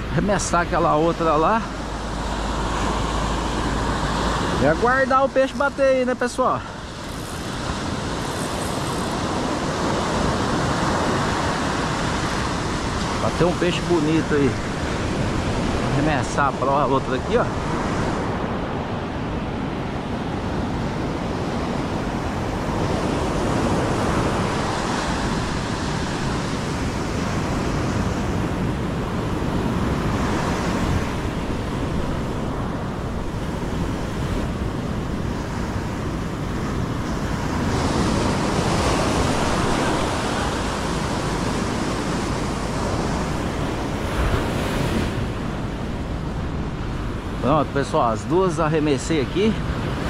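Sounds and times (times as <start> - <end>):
ocean surf breaking on beach: 0.0 - 50.0
wind on microphone: 0.0 - 50.0.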